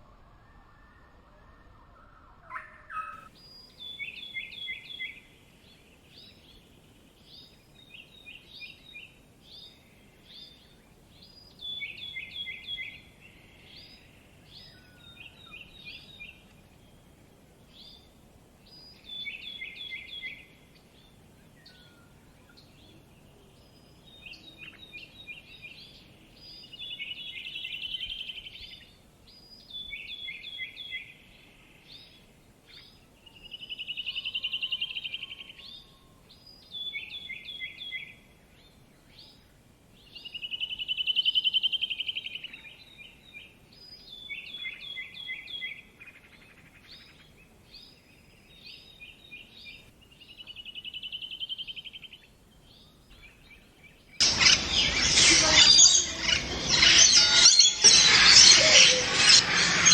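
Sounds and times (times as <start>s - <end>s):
faint background hiss: 0.0s - 56.8s
songbirds chirping: 0.0s - 59.4s.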